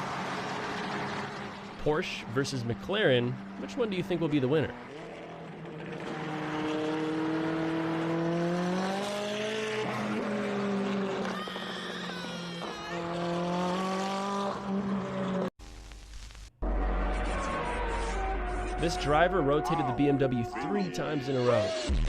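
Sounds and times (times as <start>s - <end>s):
sports car engine accelerating: 0.0s - 15.5s, 16.6s - 21.9s.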